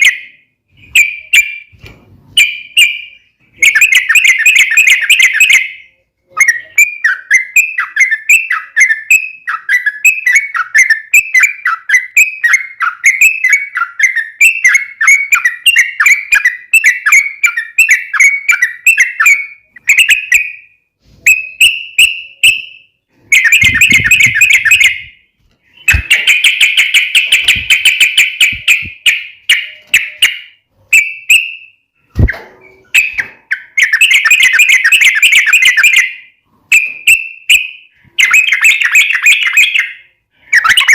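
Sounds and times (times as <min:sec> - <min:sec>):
bulbul chirping song: 0:00.0 - 0:01.8, 0:02.4 - 0:40.9.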